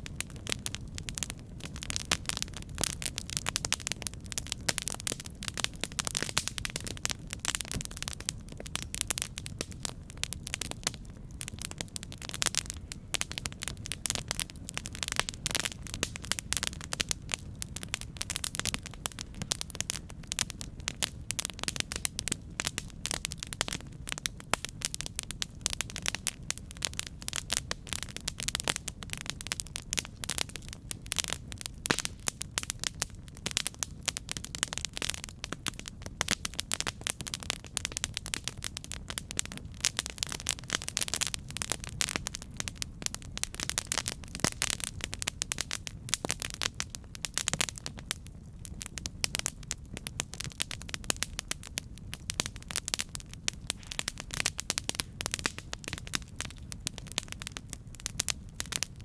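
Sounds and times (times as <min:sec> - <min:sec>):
campfire crackling and popping: 0:00.0 - 0:59.0
campfire low rumble: 0:00.0 - 0:59.0.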